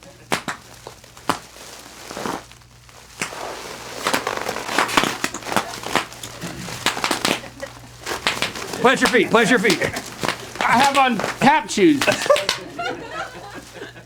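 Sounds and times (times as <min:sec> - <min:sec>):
bubble wrap crinkling: 0:00.0 - 0:14.0
bubble wrap snapping: 0:00.0 - 0:14.0.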